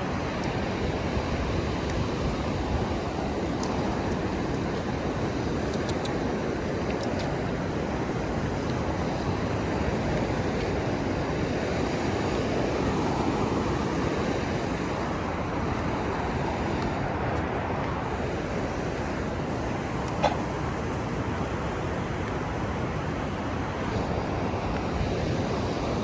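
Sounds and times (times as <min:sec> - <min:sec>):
ocean surf rushing: 0:00.0 - 0:26.0.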